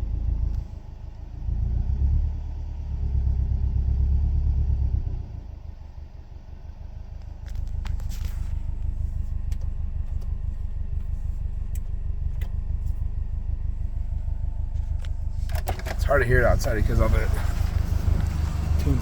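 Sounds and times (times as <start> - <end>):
car engine idling: 0.0 - 1.6, 2.3 - 19.0.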